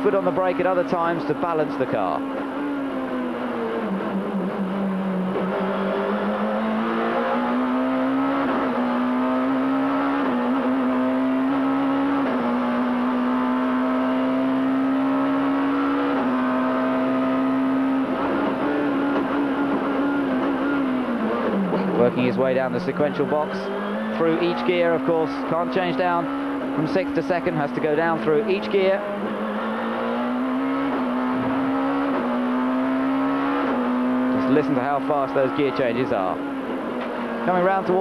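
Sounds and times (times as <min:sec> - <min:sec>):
race car engine at high revs: 0:00.0 - 0:38.0.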